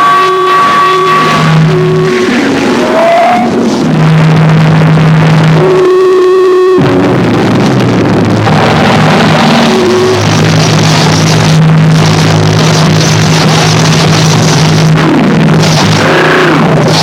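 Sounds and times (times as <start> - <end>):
sliding arching tones: 0.0 - 5.6, 6.8 - 17.0
low drone: 0.0 - 17.0
wall of distorted noise: 0.0 - 17.0.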